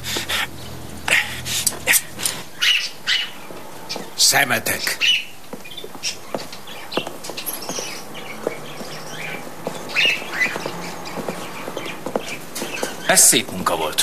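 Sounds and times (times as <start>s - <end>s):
parrots squawking: 0.0s - 14.0s.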